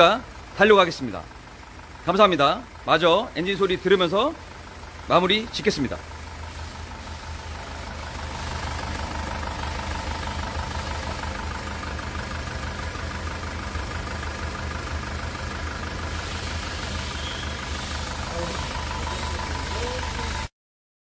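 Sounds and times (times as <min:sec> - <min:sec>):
diesel engine idling: 0:00.0 - 0:20.5.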